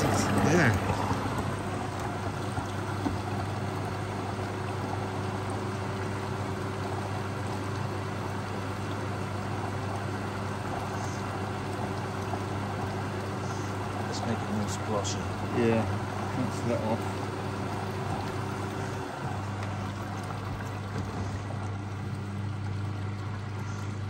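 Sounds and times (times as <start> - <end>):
washing machine running: 0.0 - 24.0
water gurgling: 0.0 - 24.0.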